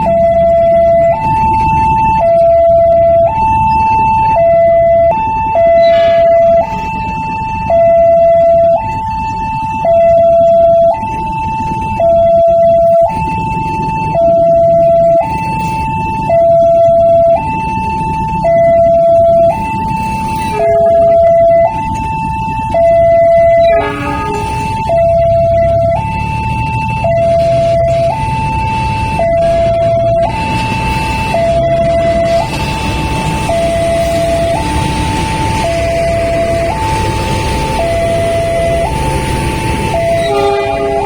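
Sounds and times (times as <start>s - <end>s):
level crossing two-tone alarm: 0.0s - 41.0s.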